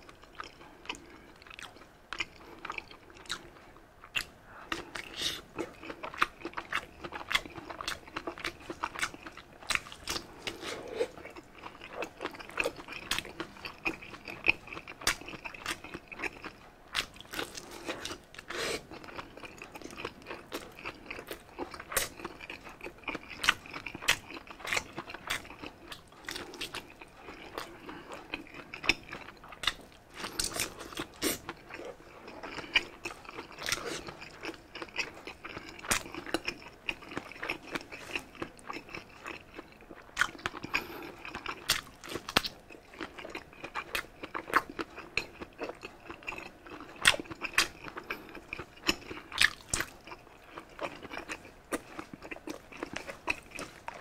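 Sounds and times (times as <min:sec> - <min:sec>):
chewing sausage: 0:00.0 - 0:54.0.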